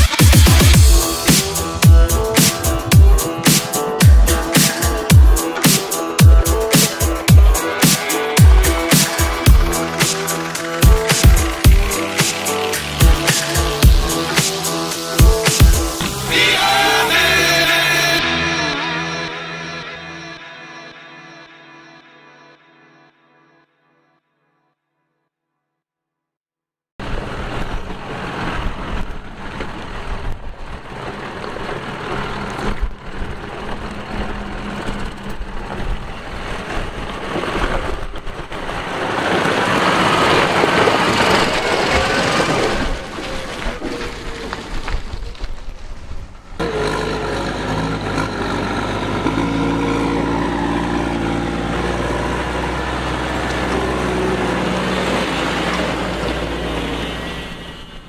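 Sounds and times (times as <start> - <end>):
tyres on wet road: 0.0 - 18.7, 27.0 - 58.0
tractor engine: 0.0 - 20.3, 27.0 - 58.0.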